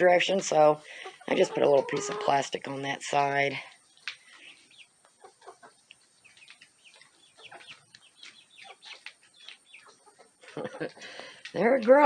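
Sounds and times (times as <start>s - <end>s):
chicks peeping and cheeping: 0.0s - 12.0s.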